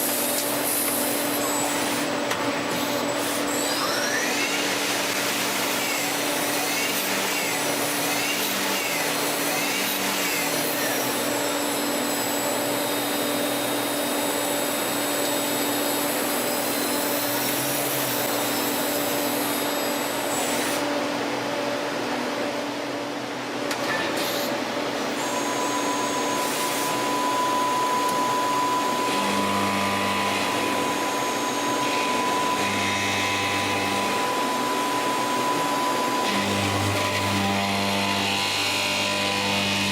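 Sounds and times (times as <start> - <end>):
lathe whirring and humming: 0.0 - 39.9.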